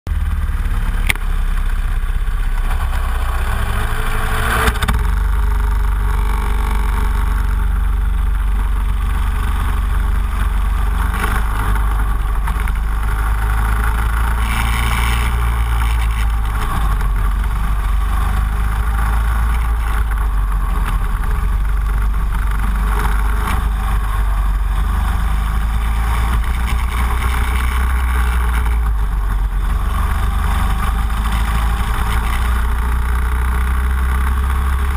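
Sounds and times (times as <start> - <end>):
kart engine revving: 0.1 - 34.9
wind rumble on microphone: 0.1 - 34.9.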